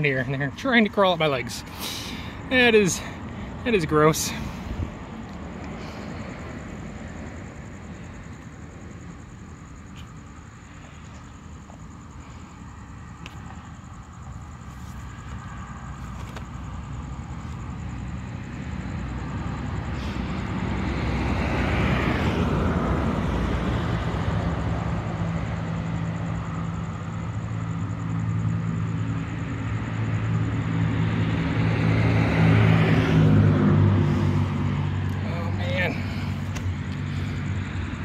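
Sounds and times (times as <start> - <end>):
low engine hum: 0.0 - 38.0
vehicle road noise: 0.0 - 38.0.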